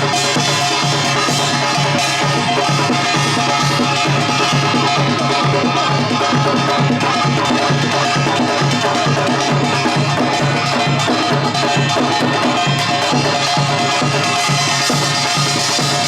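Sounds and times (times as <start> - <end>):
drums driving beat: 0.0 - 16.0
gongs clanging: 0.0 - 16.0.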